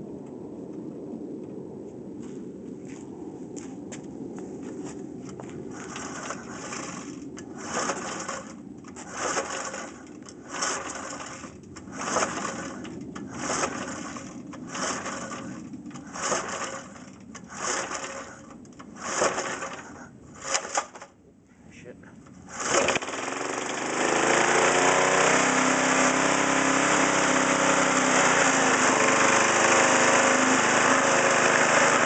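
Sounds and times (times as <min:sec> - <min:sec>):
lawn mower engine cranking: 0:05.3 - 0:21.2, 0:22.2 - 0:32.0.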